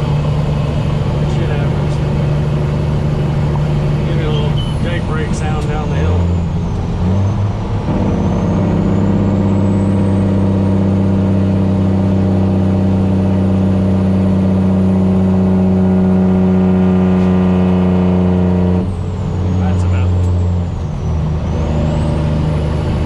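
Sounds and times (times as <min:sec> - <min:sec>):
diesel truck engine pulling hard: 0:00.0 - 0:23.0.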